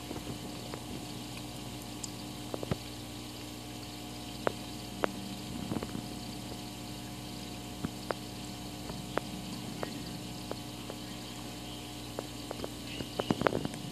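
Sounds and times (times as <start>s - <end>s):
aquarium air pump humming: 0.0s - 13.9s
bubbles popping: 0.0s - 13.9s.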